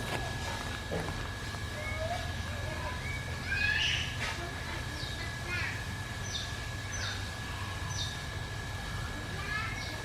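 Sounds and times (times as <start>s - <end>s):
steady thin high whine: 0.0s - 10.0s.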